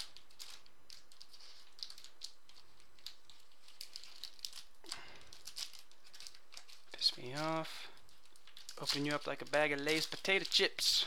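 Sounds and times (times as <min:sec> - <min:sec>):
foil wrapper crinkling: 0:00.0 - 0:11.0
wrapper tearing crackles: 0:00.0 - 0:11.0.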